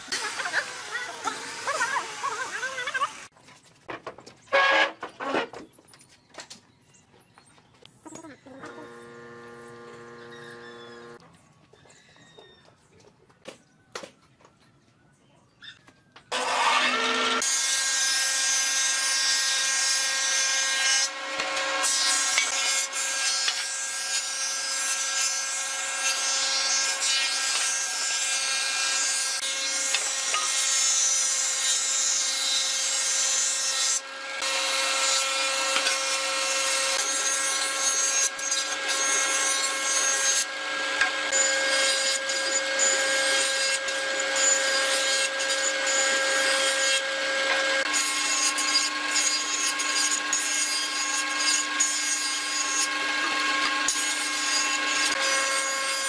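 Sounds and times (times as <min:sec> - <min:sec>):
power tool cutting wood: 0:00.0 - 0:03.3, 0:08.6 - 0:11.2, 0:16.3 - 0:56.0.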